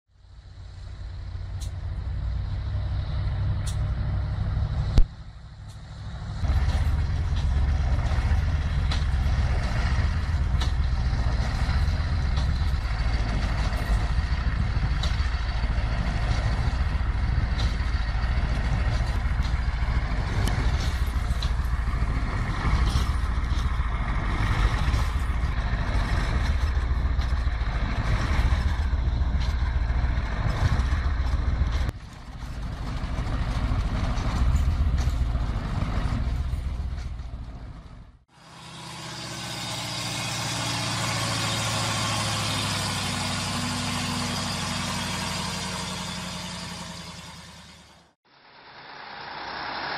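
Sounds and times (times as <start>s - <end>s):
diesel truck engine rumbling: 0.1s - 49.9s.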